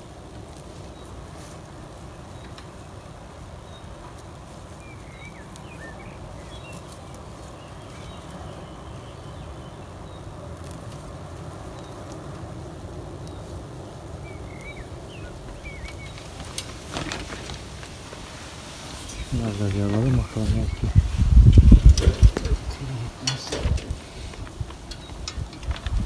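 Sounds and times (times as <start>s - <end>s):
small birds chirping: 0.7s - 11.0s, 13.1s - 26.0s.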